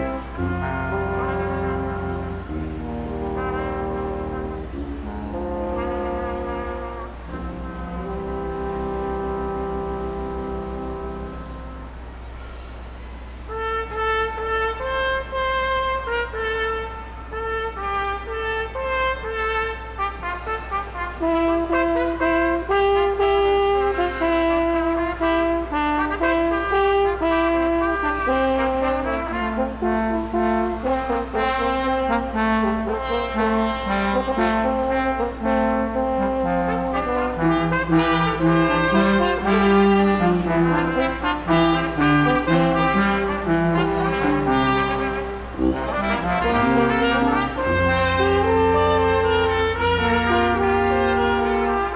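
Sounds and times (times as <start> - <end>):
brass ensemble playing chords: 0.0 - 51.9
steady low hum: 0.0 - 51.9.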